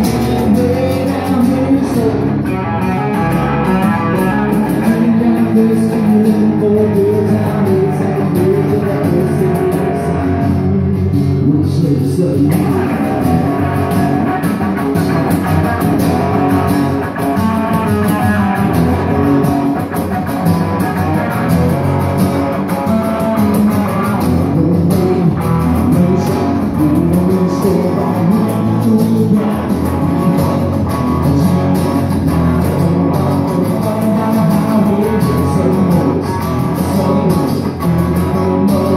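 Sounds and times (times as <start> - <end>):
man singing: 0.0 - 19.8, 22.6 - 38.9
electric guitar: 0.0 - 38.9
strummed acoustic guitar: 0.0 - 38.9.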